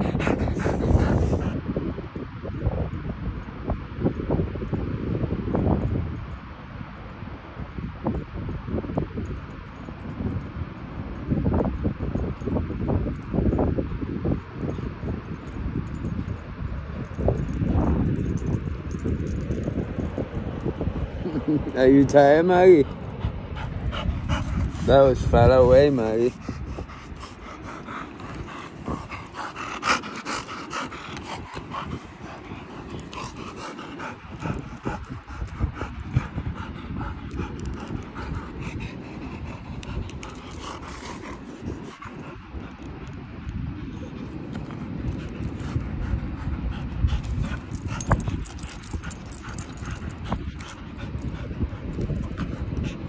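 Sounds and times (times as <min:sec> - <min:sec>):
dog panting: 0:00.0 - 0:01.6, 0:11.2 - 0:53.0
wind rumbling on microphone: 0:00.0 - 0:53.0.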